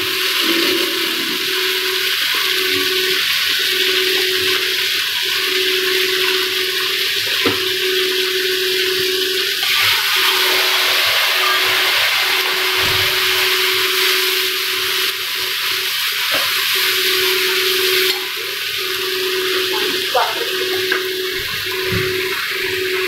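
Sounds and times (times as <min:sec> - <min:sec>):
spices sizzling in hot oil: 0:00.0 - 0:23.0.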